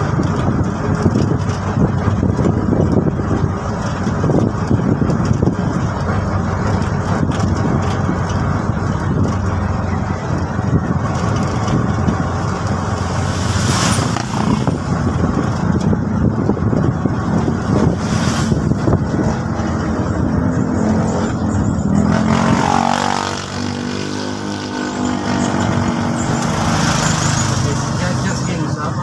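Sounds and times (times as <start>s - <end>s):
road noise: 0.0s - 29.0s
three-wheeler engine running: 0.0s - 29.0s.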